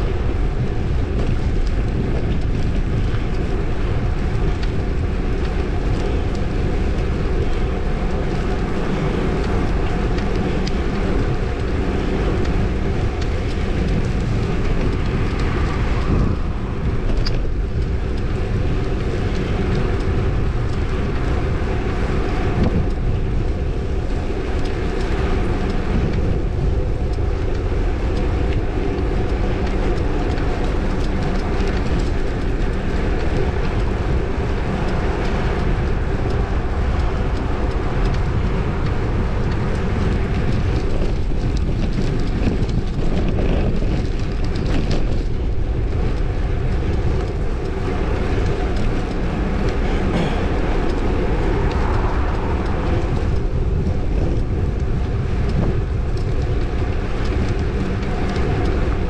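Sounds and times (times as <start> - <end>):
moving vehicle rumble: 0.0 - 59.0.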